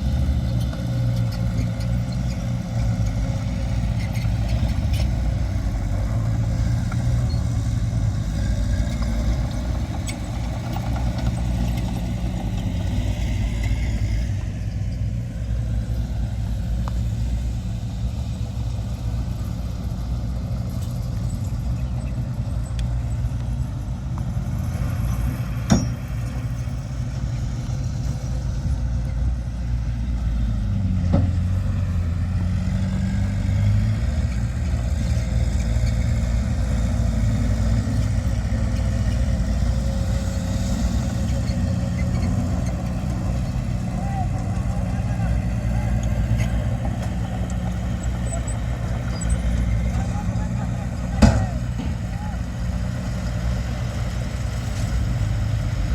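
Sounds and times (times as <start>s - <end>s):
heavy diesel machinery running: 0.0s - 55.9s.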